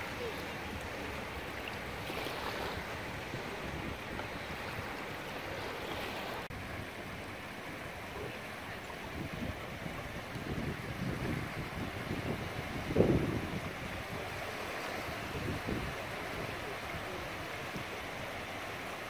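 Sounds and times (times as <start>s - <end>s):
small waves washing onto sand: 0.0s - 19.0s
wind rumbling on microphone: 0.0s - 19.0s.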